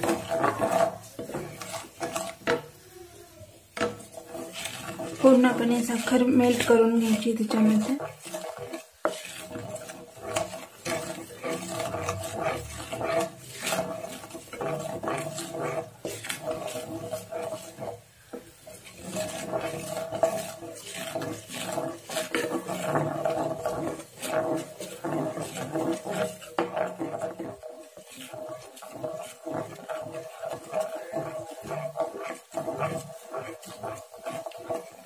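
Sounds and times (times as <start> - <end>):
wooden spatula scraping pan: 0.0 - 35.0.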